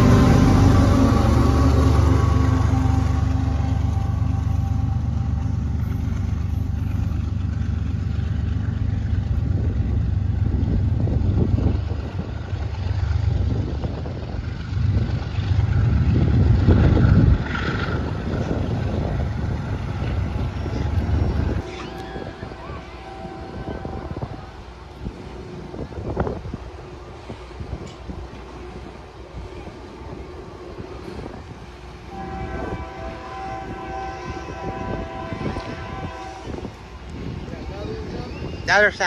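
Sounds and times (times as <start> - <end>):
freight train rumbling past: 0.0 - 39.0
wind buffeting microphone: 0.0 - 39.0.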